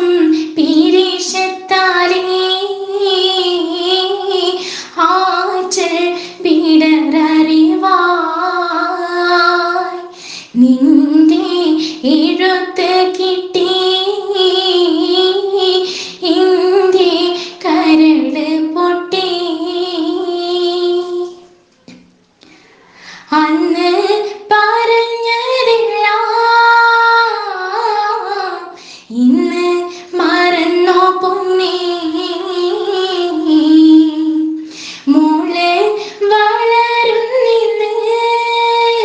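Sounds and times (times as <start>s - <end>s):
woman singing: 0.0s - 21.6s, 23.3s - 39.0s.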